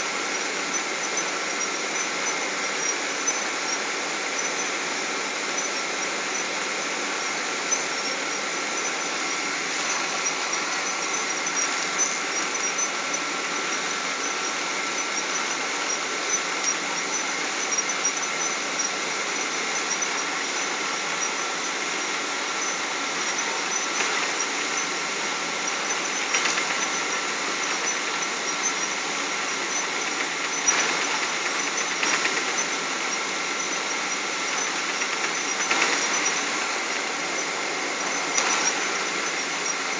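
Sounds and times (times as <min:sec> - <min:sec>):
aircraft cabin engine noise: 0:00.0 - 0:39.9
high whine: 0:00.0 - 0:39.9.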